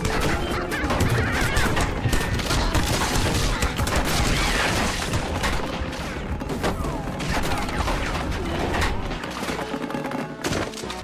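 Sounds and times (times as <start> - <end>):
music: 0.0 - 11.0.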